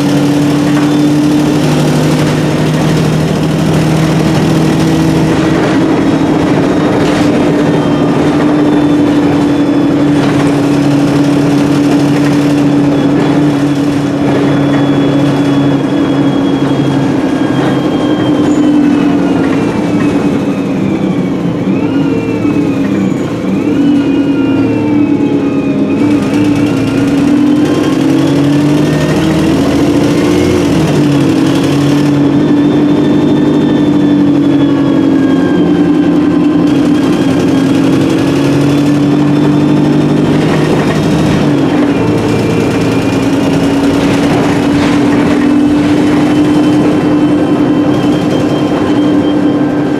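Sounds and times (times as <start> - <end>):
bus diesel engine running: 0.0 - 49.9
gearbox whine: 0.0 - 49.9.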